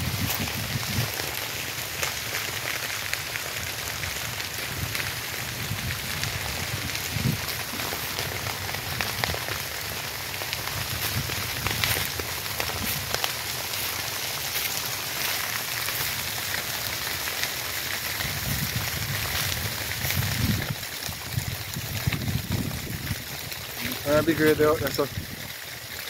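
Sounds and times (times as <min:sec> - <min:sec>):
fire crackling and popping: 0:00.0 - 0:26.0
fire hissing: 0:00.0 - 0:26.0.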